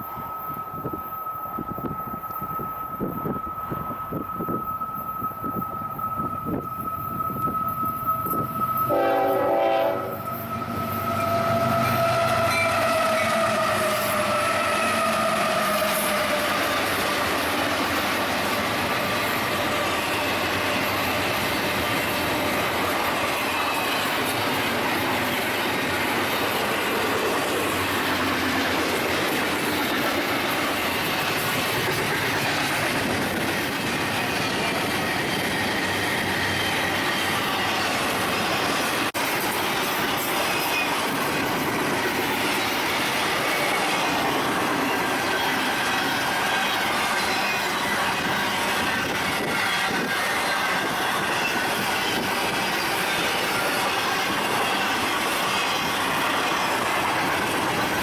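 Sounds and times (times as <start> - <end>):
freight train rumble and clatter: 0.0 - 58.0
high steady squeal: 0.0 - 58.0.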